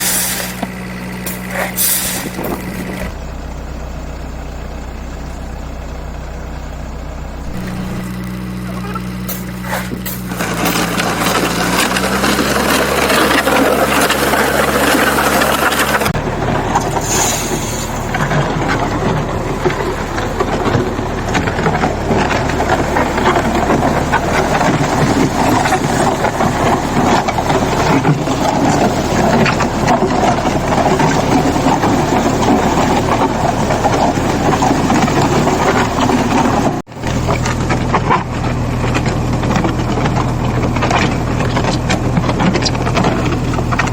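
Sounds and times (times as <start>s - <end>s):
backhoe diesel engine running: 0.0s - 43.9s
rough mechanical noise: 0.0s - 43.9s.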